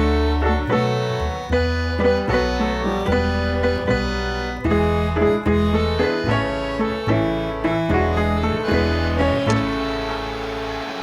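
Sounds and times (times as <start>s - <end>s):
instrumental music with bass line: 0.0s - 11.0s.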